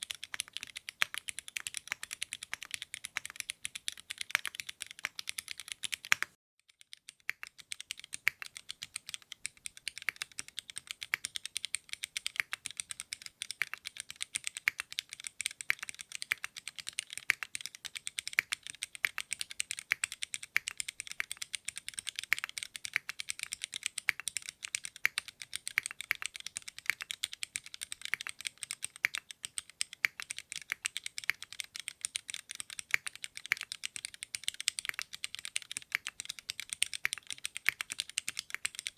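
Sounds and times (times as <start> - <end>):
mechanical keyboard keystroke clacks: 0.0 - 38.9.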